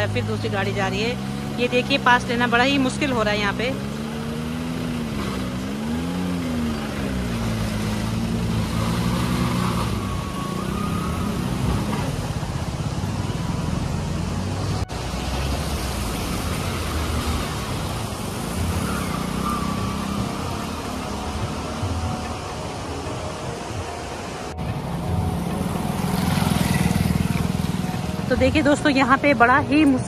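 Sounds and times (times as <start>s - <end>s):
car engines at low speed: 0.0s - 30.0s
motorcycle passing: 0.0s - 30.0s.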